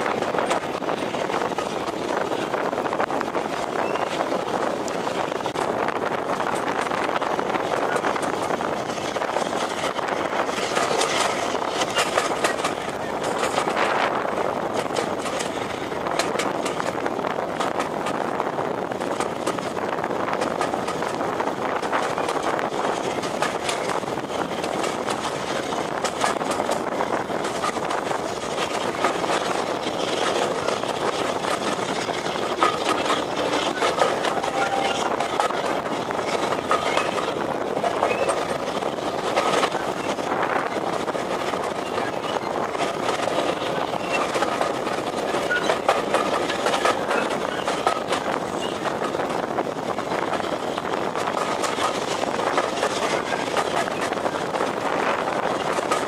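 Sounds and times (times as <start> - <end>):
train rushing noise: 0.0 - 56.0.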